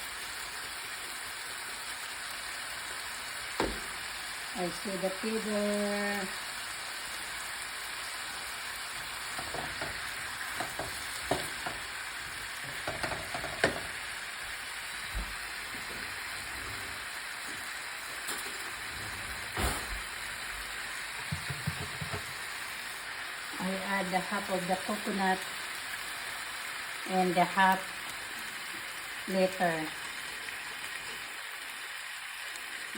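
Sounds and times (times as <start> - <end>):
food sizzling in oil: 0.0 - 32.9.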